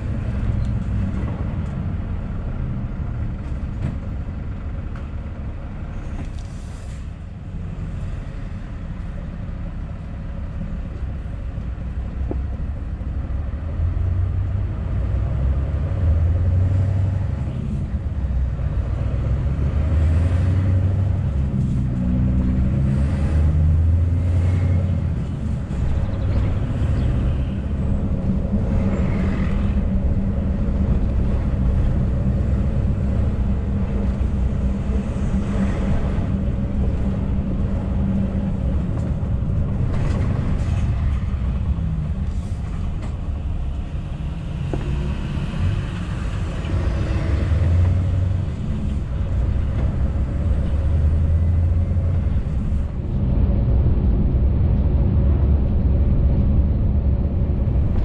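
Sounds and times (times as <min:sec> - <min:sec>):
diesel lorry engine droning: 0:00.0 - 0:58.0.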